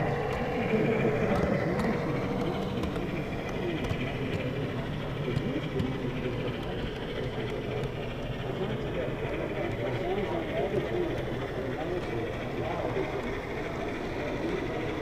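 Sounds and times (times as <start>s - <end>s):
model train rumbling on track: 0.0s - 15.0s
murmur of voices: 0.0s - 15.0s.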